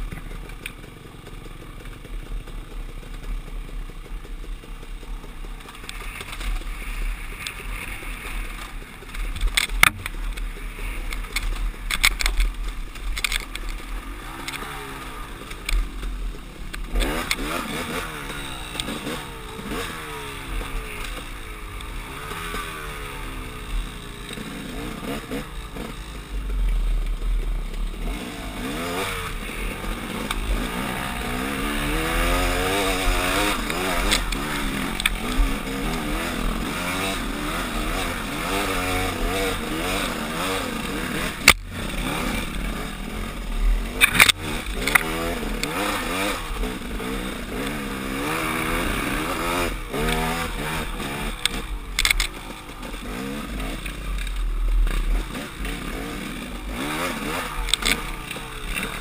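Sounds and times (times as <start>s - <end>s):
dirt bike engine revving: 5.0s - 59.0s.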